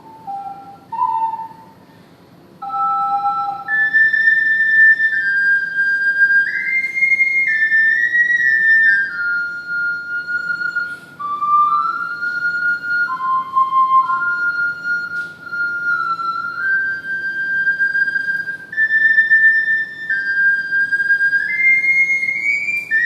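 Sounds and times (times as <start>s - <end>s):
ocarina melody: 0.0s - 2.0s, 2.6s - 23.0s.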